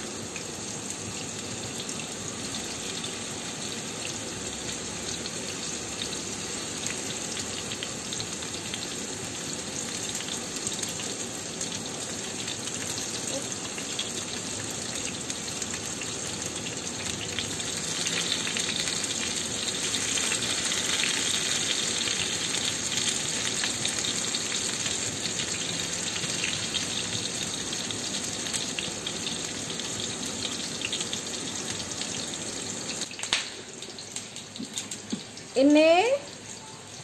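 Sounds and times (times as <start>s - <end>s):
tofu sizzling in oil: 0.0s - 37.0s.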